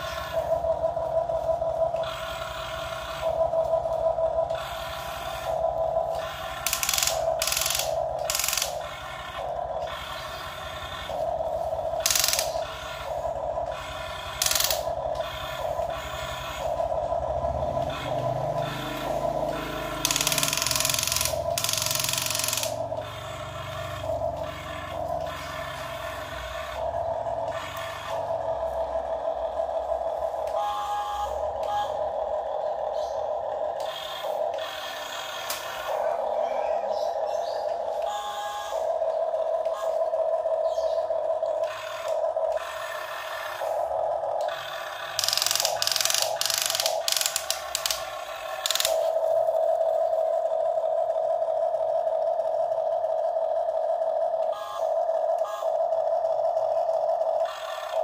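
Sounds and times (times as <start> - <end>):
electric gear motors whining: 0.0 - 58.0.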